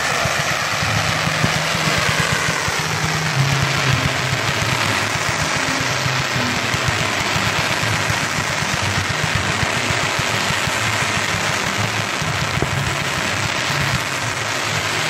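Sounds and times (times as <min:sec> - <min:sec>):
firework fountain hissing: 0:00.0 - 0:15.0.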